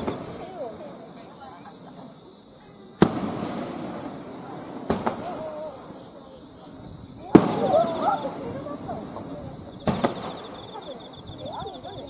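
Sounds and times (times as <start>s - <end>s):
fireworks bursting: 0.0s - 12.0s
insects chirring: 0.0s - 12.0s.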